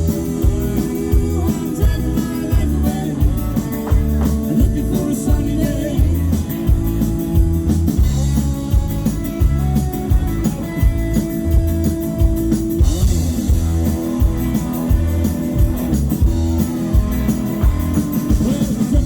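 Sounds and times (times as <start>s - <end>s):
country rock band playing: 0.0s - 19.0s
drum kit steady beat: 0.0s - 19.0s
guitar: 0.0s - 19.0s.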